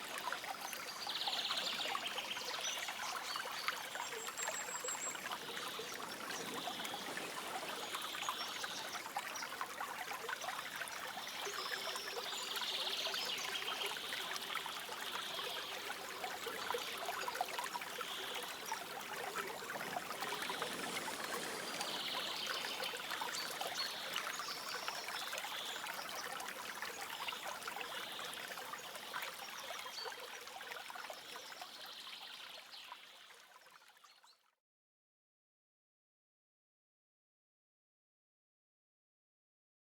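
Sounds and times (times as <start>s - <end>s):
forest stream trickling: 0.0s - 34.4s.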